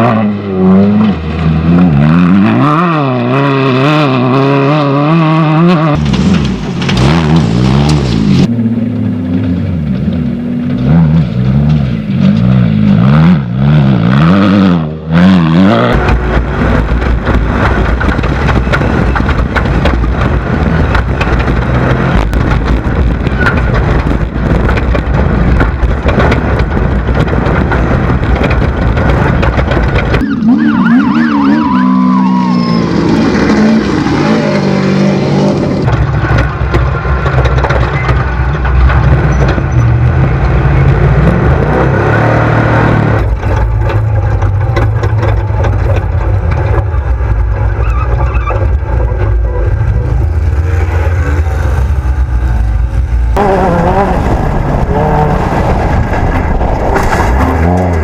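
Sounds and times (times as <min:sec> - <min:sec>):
buggy engines revving: 0:00.0 - 0:58.0
rough rumbling of vehicle: 0:00.0 - 0:58.0.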